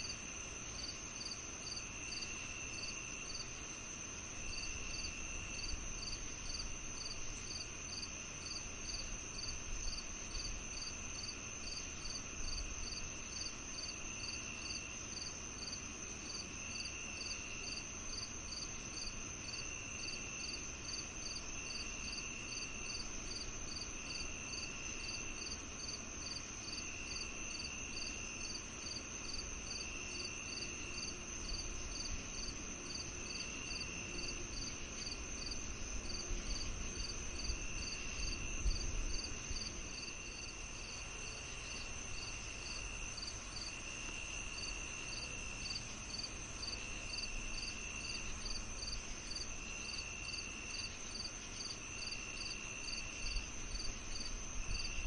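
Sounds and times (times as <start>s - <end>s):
cricket chirping: 0.0s - 55.0s
crickets steady high trill: 0.0s - 55.0s
lower cricket trill: 0.0s - 55.0s.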